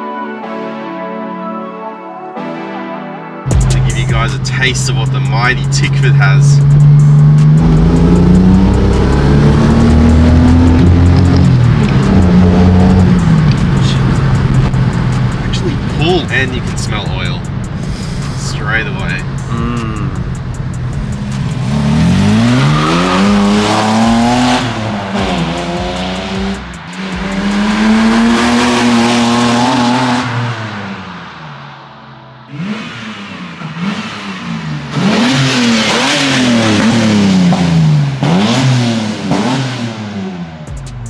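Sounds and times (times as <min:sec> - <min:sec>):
car engine accelerating: 0:03.5 - 0:41.0
car engine revving: 0:03.5 - 0:41.0.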